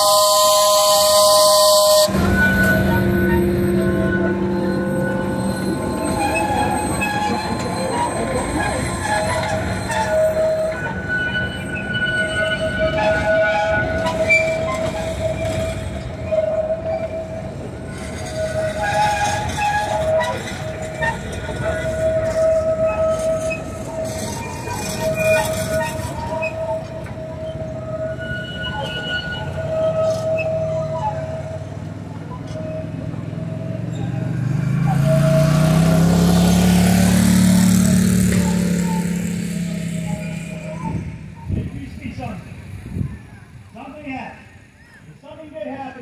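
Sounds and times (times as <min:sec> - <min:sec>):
high wheel squeal: 0:00.0 - 0:45.2
train cars rolling on rails: 0:00.0 - 0:46.0.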